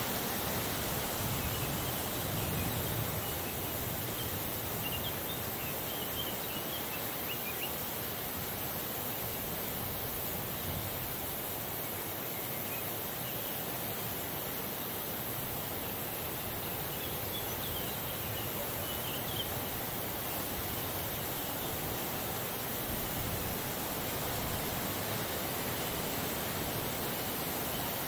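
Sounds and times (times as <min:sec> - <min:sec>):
light breeze hiss: 0:00.0 - 0:28.0.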